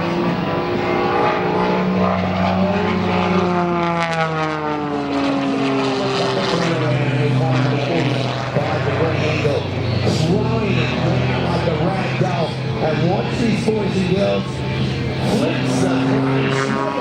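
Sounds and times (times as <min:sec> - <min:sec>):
propeller plane engine passing: 0:00.0 - 0:17.0.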